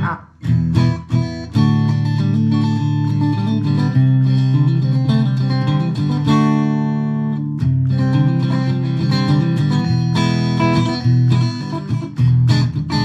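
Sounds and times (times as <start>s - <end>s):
electric guitar strumming chords: 0.0s - 13.0s.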